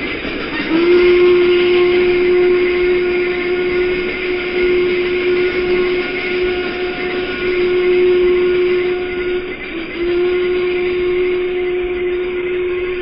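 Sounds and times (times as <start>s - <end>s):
steam hiss: 0.0s - 13.0s
steam locomotive whistle: 0.0s - 13.0s.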